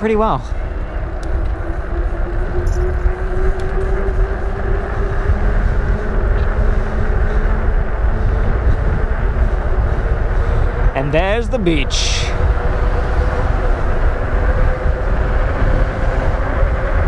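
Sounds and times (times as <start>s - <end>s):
bike tyres rolling on asphalt: 0.0s - 17.0s
faint hum rising in pitch: 0.0s - 17.0s
wind rushing over microphone: 0.0s - 17.0s.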